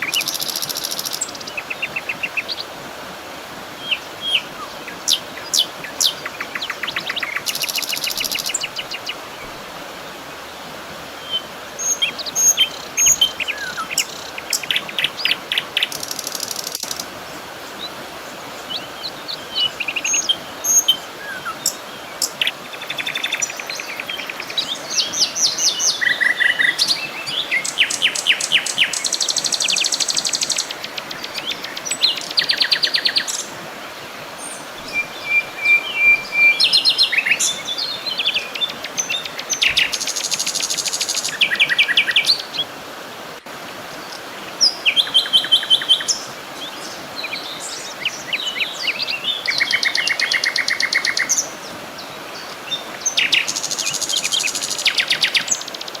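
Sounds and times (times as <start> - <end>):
birds singing and calling: 0.0 - 2.7, 3.8 - 9.6, 11.2 - 42.7, 43.8 - 56.0
soft outdoor background hiss: 0.0 - 56.0.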